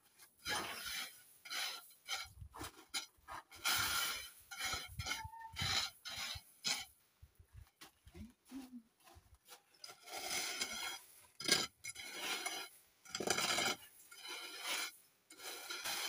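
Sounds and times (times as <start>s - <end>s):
stick raking loose gravel: 0.0s - 7.0s, 9.5s - 16.0s.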